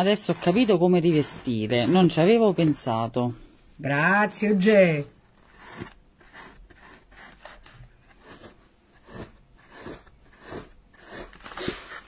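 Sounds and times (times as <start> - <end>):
scratchy scrapes on foam: 0.0 - 3.1, 5.4 - 12.0.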